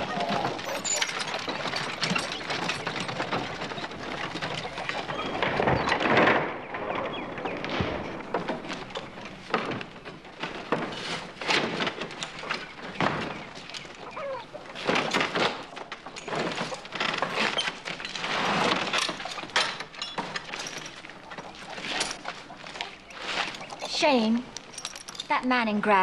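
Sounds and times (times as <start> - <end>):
wooden knocks and thumps: 0.0 - 25.3.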